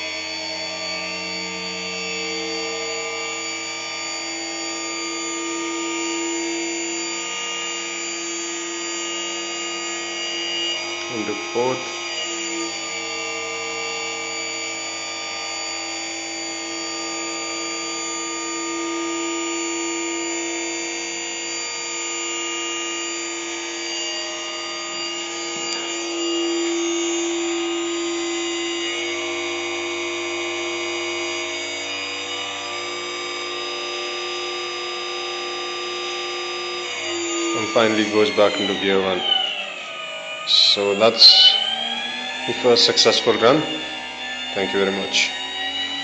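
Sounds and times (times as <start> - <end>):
electric motor whine: 0.0 - 46.0.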